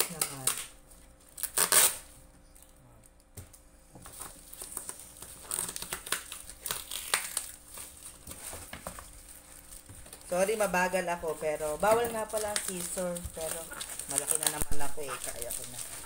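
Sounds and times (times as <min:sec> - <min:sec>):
bubble wrap crinkling: 0:00.0 - 0:03.3, 0:04.0 - 0:16.0.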